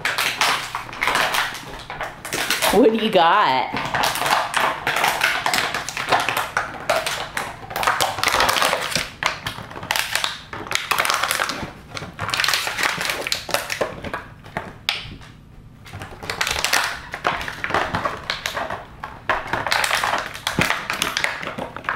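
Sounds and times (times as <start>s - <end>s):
plastic bottle crinkling: 0.0s - 21.9s.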